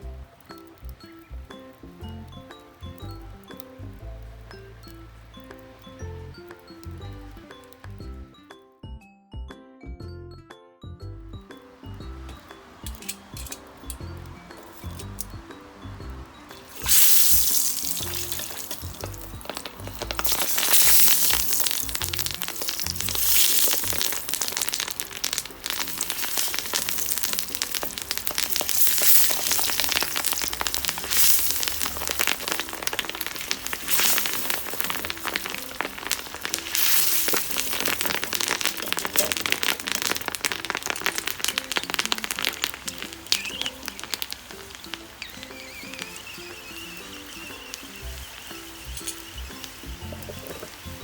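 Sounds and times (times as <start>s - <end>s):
food sizzling in hot oil: 0.0s - 8.1s, 11.5s - 51.0s.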